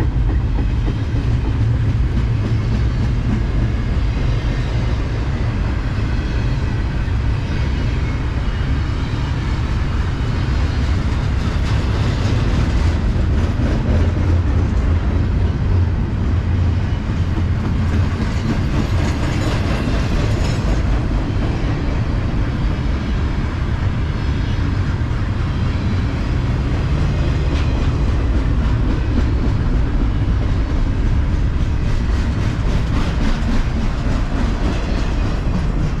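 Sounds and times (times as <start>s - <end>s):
freight train cars rumbling: 0.0s - 36.0s.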